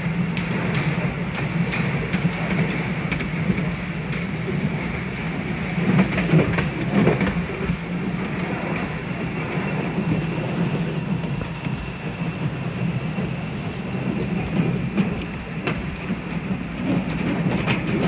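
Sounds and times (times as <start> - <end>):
train cars rumbling on track: 0.0 - 18.0.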